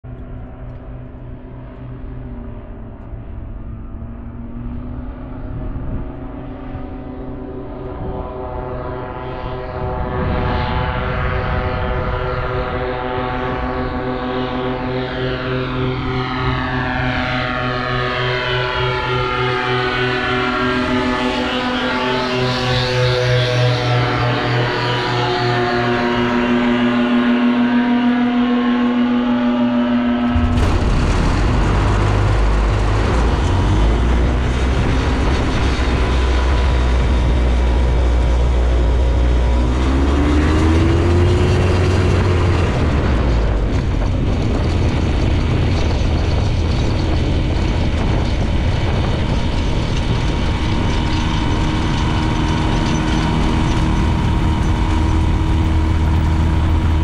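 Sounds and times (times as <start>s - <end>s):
light aircraft engine and propeller: 0.0s - 57.0s.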